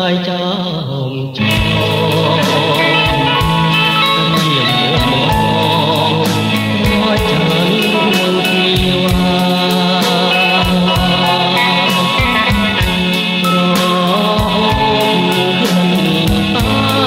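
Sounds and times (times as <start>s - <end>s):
pop song with drum beat: 1.4s - 17.0s.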